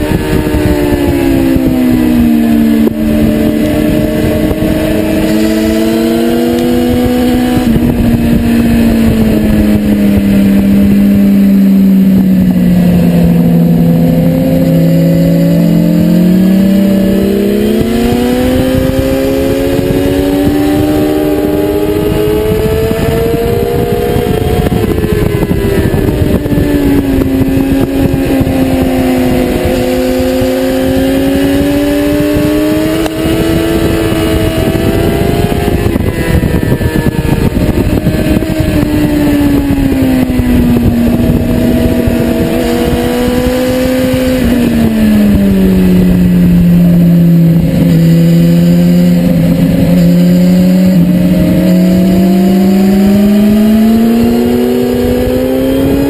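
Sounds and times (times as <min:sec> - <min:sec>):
motorcycle engine at speed: 0:00.0 - 0:56.0
wind rush: 0:00.0 - 0:56.0.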